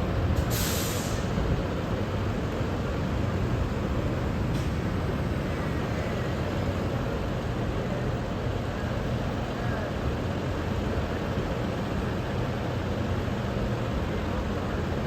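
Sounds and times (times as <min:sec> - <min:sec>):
vehicle rumble and hiss: 0:00.0 - 0:15.0.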